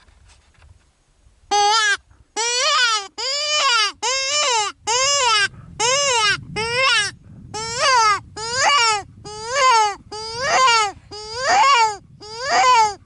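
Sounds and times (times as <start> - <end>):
predator call wailing cries: 1.5 - 13.0.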